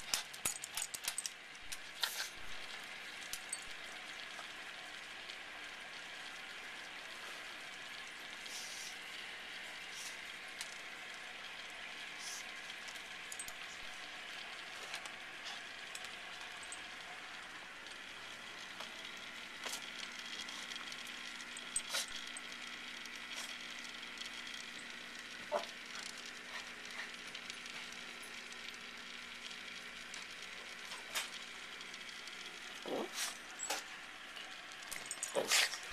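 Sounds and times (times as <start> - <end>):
aquarium air pump bubbling: 0.0 - 35.9.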